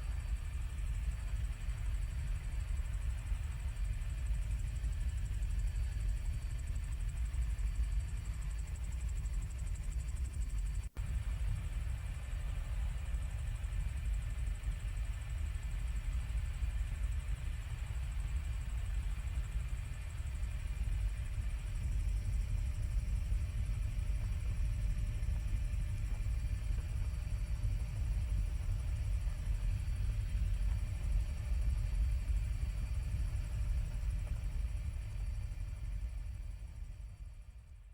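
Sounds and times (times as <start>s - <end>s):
helicopter low rumble: 0.0s - 37.7s.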